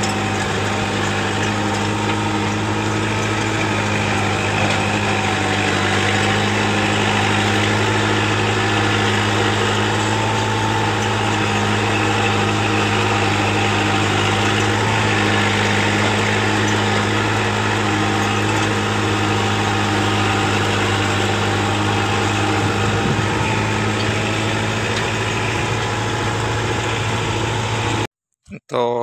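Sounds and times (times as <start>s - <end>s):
tractor diesel engine drone: 0.0s - 29.0s.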